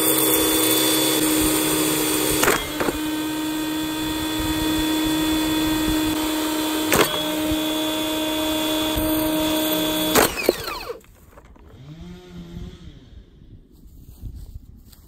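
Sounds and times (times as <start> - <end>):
pressure washer running: 0.0 - 12.2.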